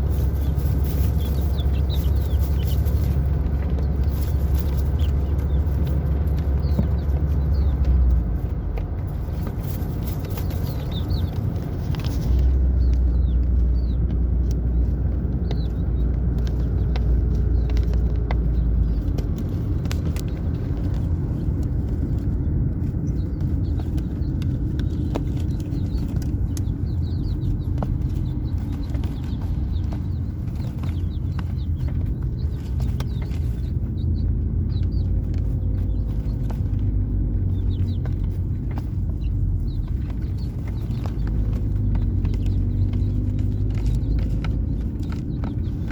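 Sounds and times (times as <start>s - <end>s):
chicks peeping: 0.0s - 45.9s
low rumble: 0.0s - 45.9s.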